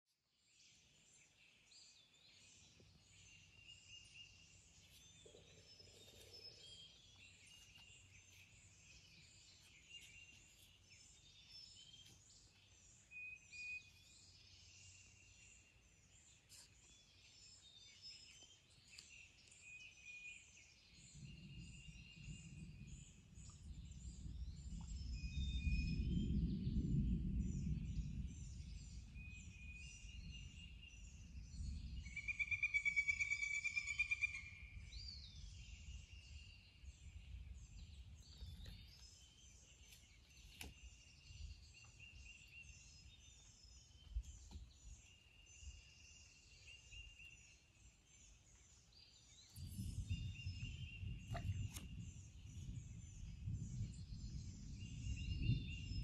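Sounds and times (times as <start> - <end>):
songbirds singing and calling: 0.4 - 56.0.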